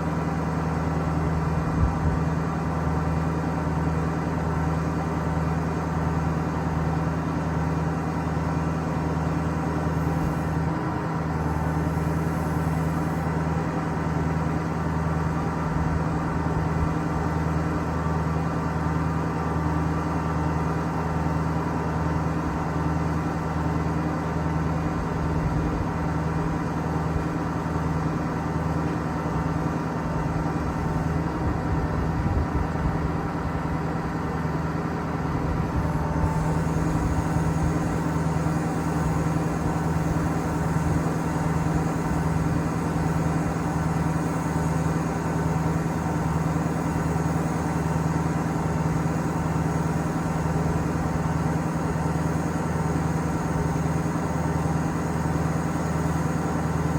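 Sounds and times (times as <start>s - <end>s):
diesel truck engine running: 0.0s - 56.9s.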